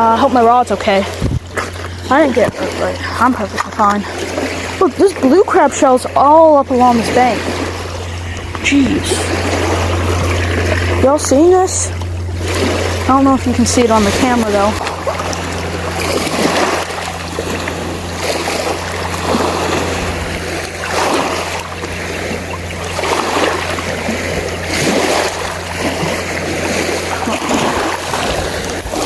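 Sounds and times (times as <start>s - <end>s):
low hum: 0.0s - 29.0s
water sloshing and splashing: 0.0s - 29.0s.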